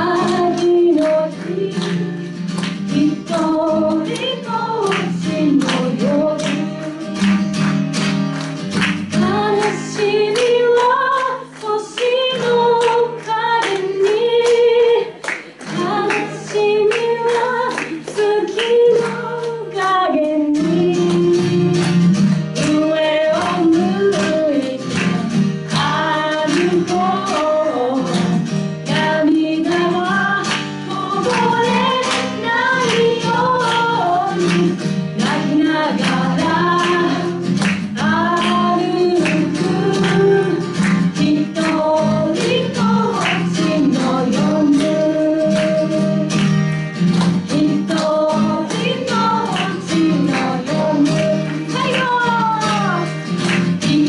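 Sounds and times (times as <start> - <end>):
woman singing: 0.0 - 7.4, 9.1 - 46.5, 47.2 - 54.0.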